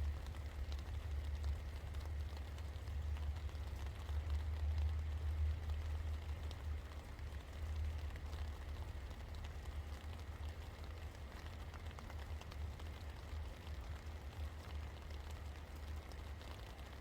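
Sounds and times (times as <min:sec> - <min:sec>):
raindrops ticking: 0:00.0 - 0:17.0.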